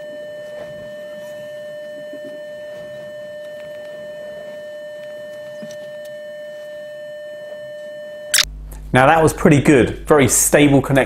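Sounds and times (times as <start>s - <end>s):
steady electronic tone: 0.0s - 9.4s.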